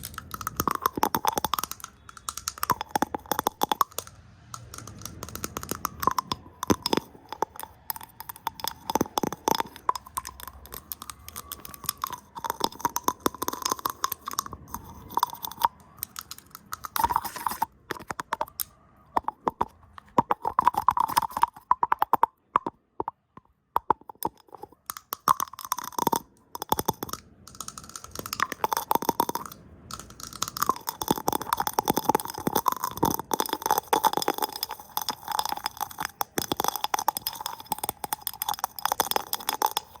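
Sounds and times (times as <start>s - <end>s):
asmr tapping and brushing: 0.0s - 40.0s.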